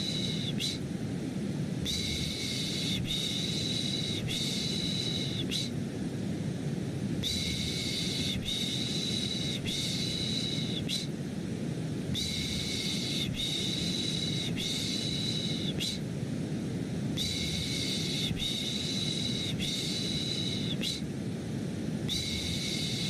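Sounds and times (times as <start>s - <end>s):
low rushing white noise: 0.0s - 23.0s.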